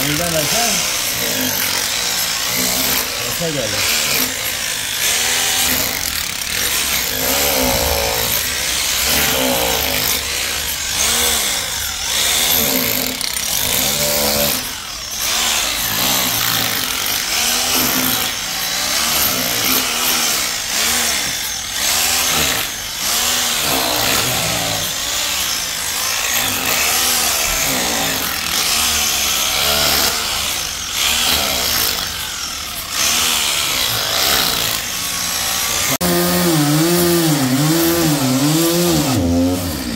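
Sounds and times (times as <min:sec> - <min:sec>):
sawmill saw whining through log: 0:00.0 - 0:39.9.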